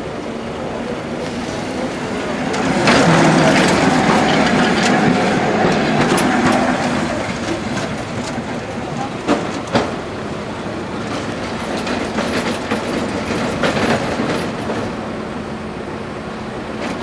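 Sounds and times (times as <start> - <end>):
tram wheels clattering on rails: 0.0 - 17.0.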